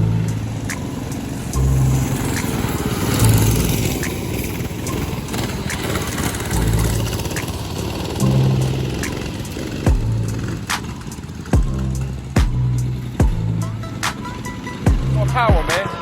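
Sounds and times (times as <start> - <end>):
mini bike engines racing: 0.0 - 16.0.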